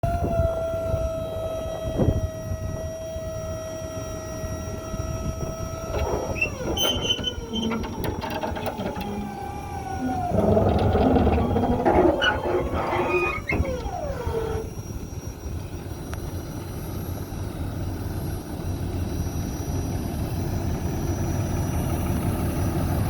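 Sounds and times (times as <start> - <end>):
diesel truck engine running: 0.1 - 23.0.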